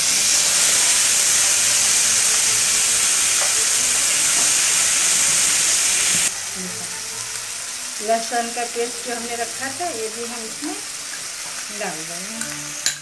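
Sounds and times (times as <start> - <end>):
spice paste sizzling in hot oil: 0.0 - 13.0.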